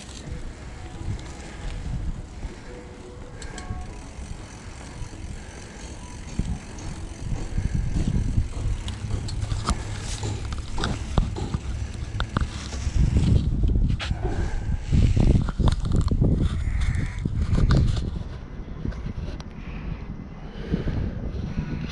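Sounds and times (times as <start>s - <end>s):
bicycle clicks and rattles: 0.0s - 19.6s
bicycle road rumble: 0.0s - 21.9s
wind: 0.0s - 21.9s.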